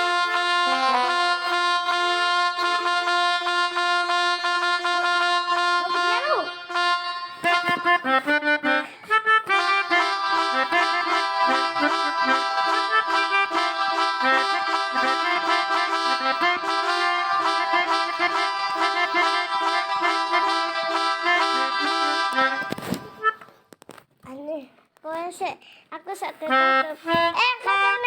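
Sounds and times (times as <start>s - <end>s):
reedy melodica tones: 0.0s - 24.0s, 26.4s - 28.0s.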